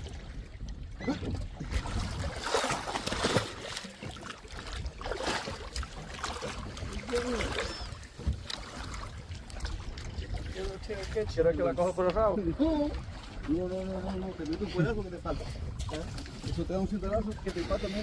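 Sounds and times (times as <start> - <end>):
rustling and splashing: 0.0 - 18.0
wind rumbling on microphone: 0.0 - 18.0.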